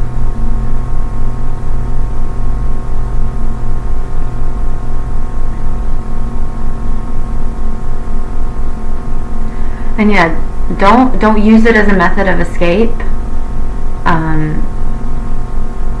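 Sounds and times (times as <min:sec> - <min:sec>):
pulsing low drone: 0:00.0 - 0:16.0.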